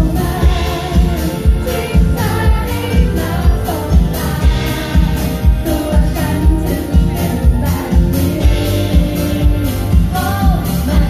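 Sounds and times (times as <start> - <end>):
electric bass guitar: 0.0 - 11.0
woman singing: 0.0 - 11.0.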